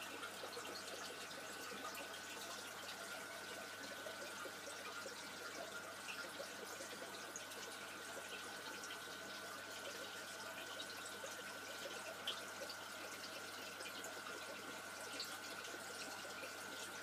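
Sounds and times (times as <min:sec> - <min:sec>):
aquarium water trickling and splashing: 0:00.0 - 0:17.0.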